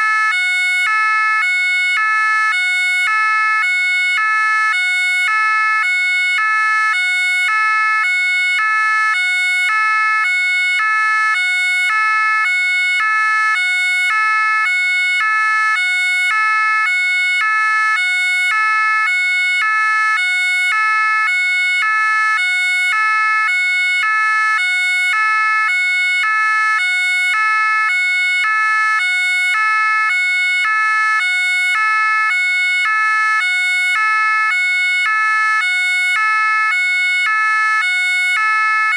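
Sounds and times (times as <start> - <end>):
two-tone siren: 0.0 - 38.9.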